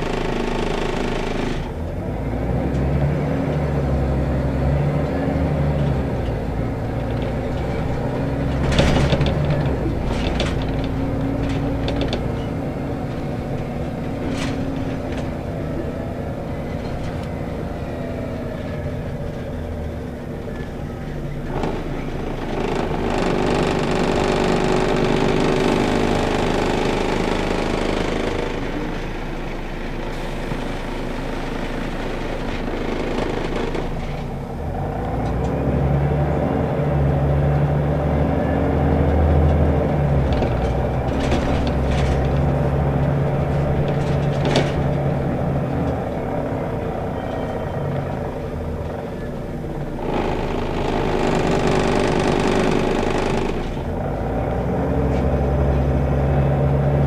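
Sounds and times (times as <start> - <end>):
bus diesel engine: 0.0 - 57.0
road noise: 0.0 - 57.0.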